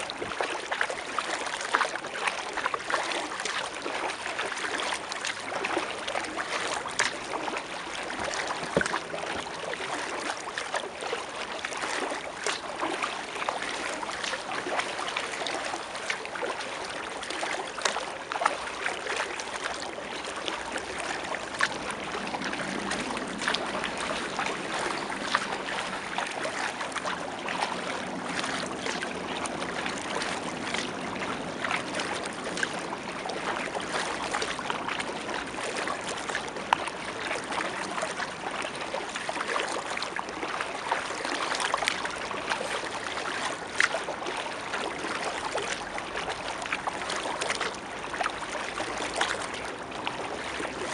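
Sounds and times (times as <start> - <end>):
water splashing around kayak: 0.0 - 50.9.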